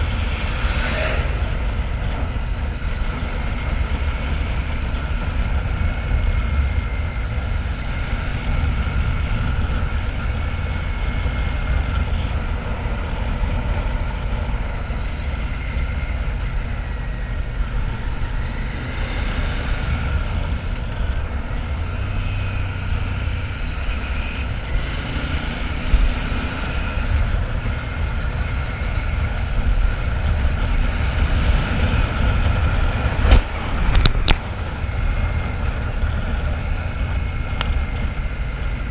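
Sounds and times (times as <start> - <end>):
motorcycle engine rumbling: 0.0 - 38.9.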